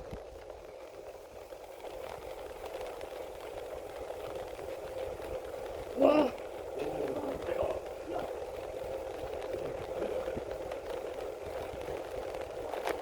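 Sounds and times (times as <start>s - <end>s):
bicycle rattle: 0.0s - 13.0s
bicycle rolling hum: 0.0s - 13.0s.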